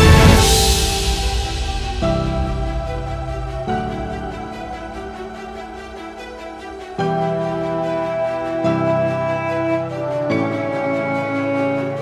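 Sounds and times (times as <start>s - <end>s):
soft sustained background music: 0.0s - 12.0s.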